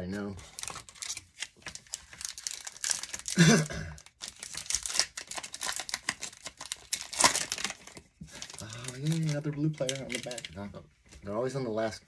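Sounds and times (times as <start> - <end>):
foil wrapper crinkling and tearing: 0.4 - 10.6.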